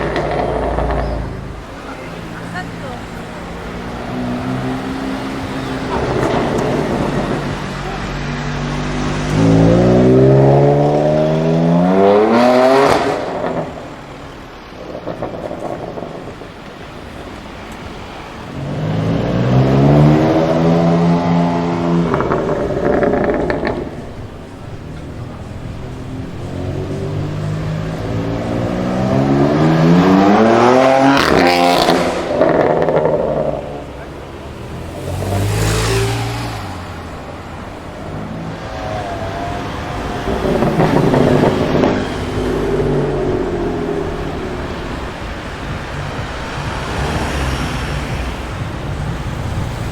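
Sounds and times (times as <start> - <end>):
exhaust pops: 0.0 - 2.6, 3.2 - 49.9
car engine accelerating hard: 0.0 - 49.9.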